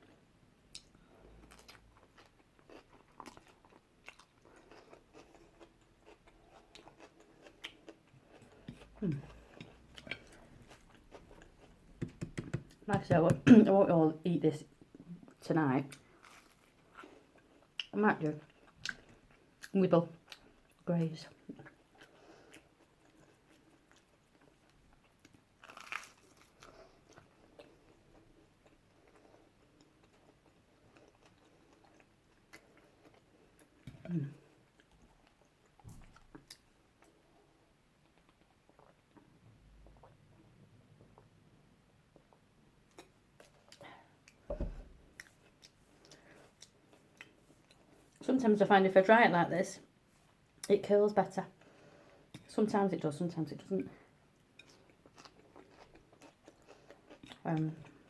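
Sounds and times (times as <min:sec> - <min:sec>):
chewing and crunching food: 0:00.0 - 0:12.0, 0:14.8 - 0:41.3, 0:42.1 - 0:48.2, 0:53.8 - 0:58.0.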